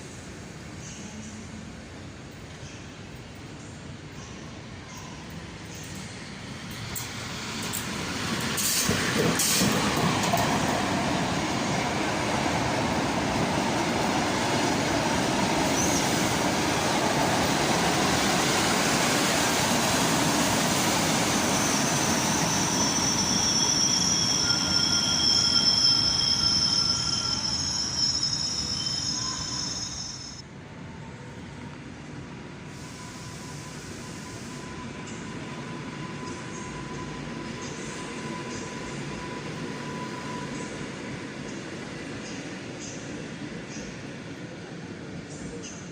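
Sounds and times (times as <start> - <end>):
train running through station: 0.0 - 45.9
train wheels squealing: 4.2 - 30.4, 32.7 - 44.0.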